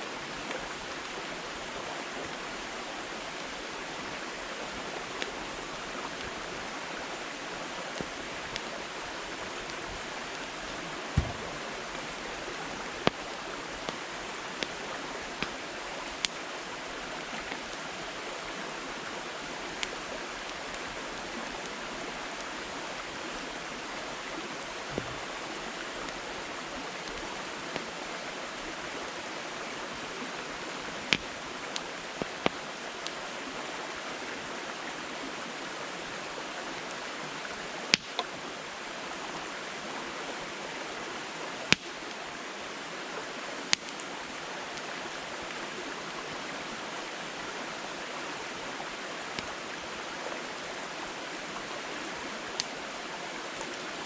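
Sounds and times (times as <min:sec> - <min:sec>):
campfire crackling: 0:00.2 - 0:54.0.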